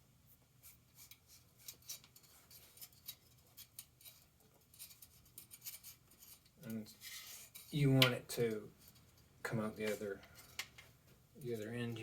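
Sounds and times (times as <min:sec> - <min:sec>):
cable housing scratching and rustling: 0:00.9 - 0:10.8.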